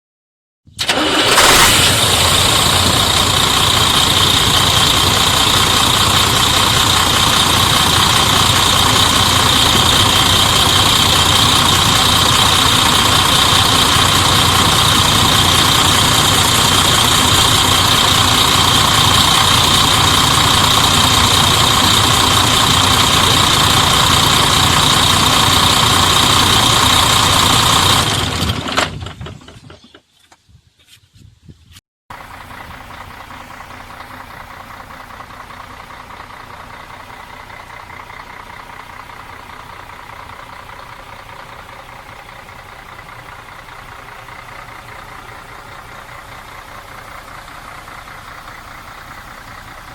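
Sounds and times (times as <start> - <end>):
diesel truck engine idling: 0.8 - 29.1, 32.1 - 49.9.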